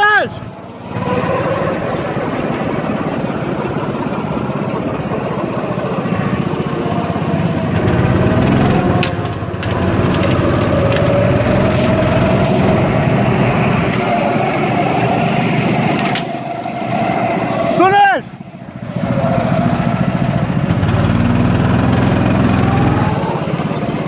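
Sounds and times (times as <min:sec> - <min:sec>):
go-kart engine revving: 0:00.0 - 0:24.0.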